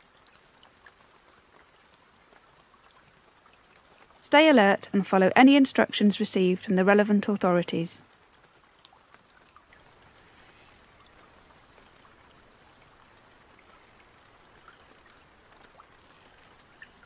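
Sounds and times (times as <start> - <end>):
small water drips: 0.0 - 6.0, 7.4 - 17.0
faint running water: 0.0 - 17.0.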